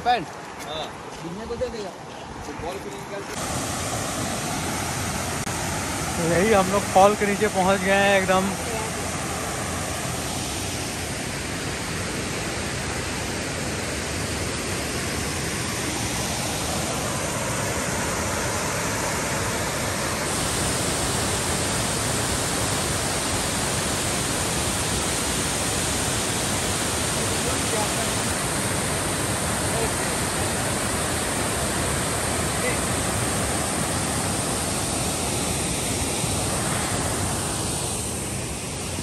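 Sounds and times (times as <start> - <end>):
waterfall rushing: 3.2 - 39.0.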